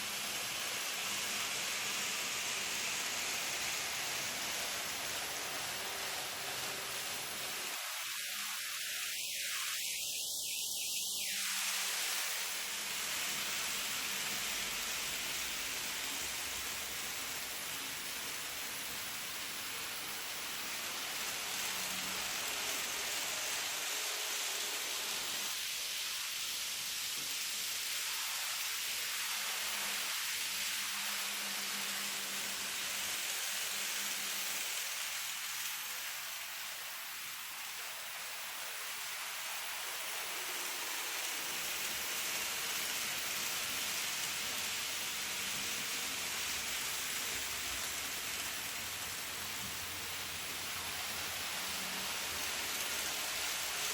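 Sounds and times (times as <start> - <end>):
model train wheels hissing on rail: 0.0 - 53.9.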